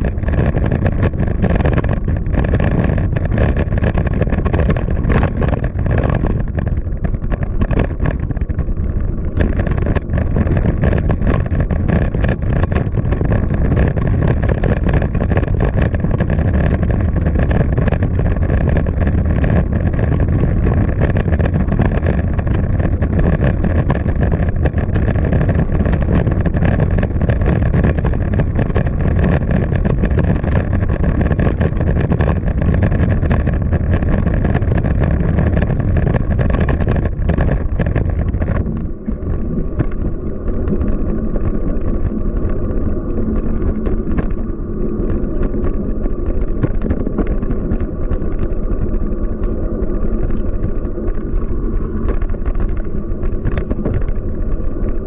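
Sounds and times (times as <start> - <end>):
city traffic rumble: 0.0 - 55.0
wind buffeting microphone: 0.0 - 55.0.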